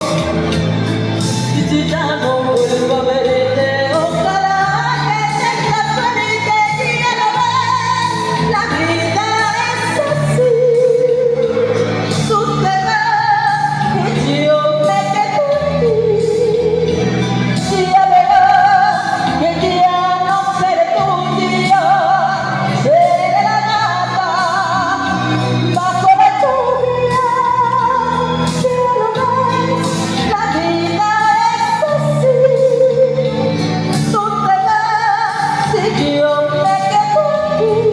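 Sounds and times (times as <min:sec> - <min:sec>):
band accompaniment: 0:00.0 - 0:37.9
woman singing: 0:01.4 - 0:37.9.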